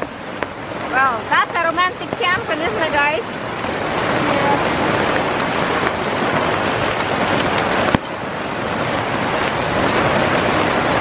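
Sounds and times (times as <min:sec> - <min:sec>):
hail and rain falling: 0:00.0 - 0:11.0.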